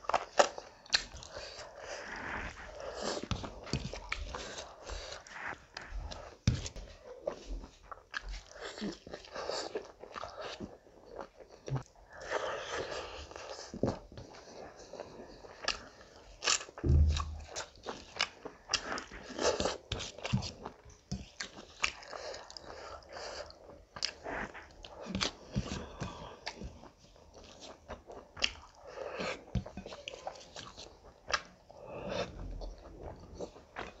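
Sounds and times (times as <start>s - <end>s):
person chewing: 0.0s - 34.0s.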